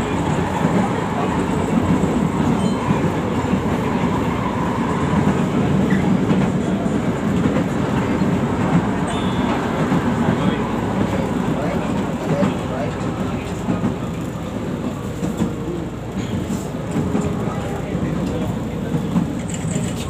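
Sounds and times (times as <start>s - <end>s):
train wheels on track: 0.0s - 20.0s.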